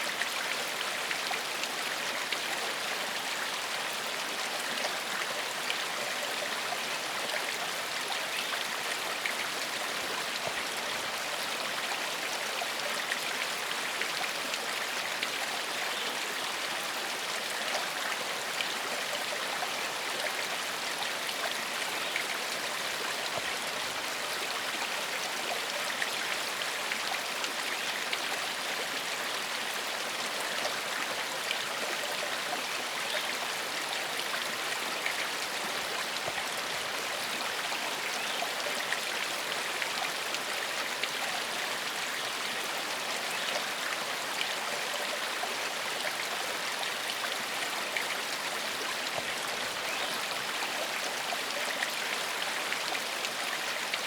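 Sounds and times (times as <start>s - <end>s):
stream flowing over stones: 0.0s - 54.0s.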